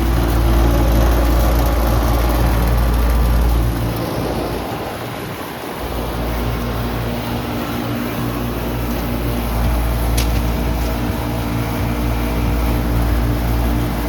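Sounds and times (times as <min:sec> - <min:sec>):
compressor electrical hum: 0:00.0 - 0:14.0
fan air rushing: 0:00.0 - 0:14.0.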